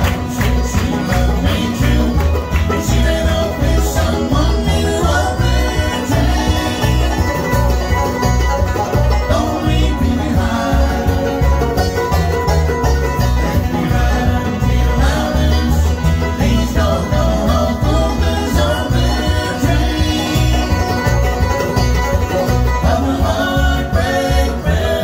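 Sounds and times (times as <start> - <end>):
acoustic guitars: 0.0 - 25.0
banjo: 0.0 - 25.0
bluegrass band playing: 0.0 - 25.0
mandolin: 0.0 - 25.0.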